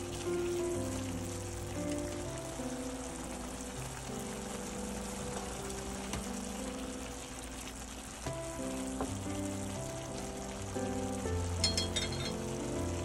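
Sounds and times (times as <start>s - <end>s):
background music: 0.0s - 13.0s
food sizzling in a pan: 0.0s - 13.0s.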